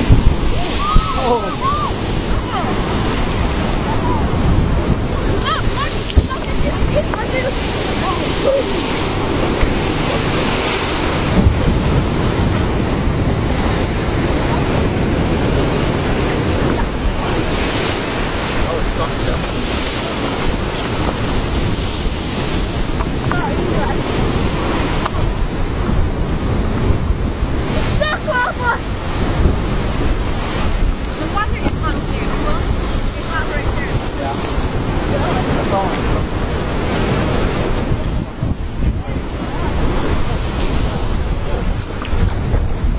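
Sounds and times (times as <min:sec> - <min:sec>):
sea rushing: 0:00.0 - 0:42.9
wind buffeting microphone: 0:00.0 - 0:42.9.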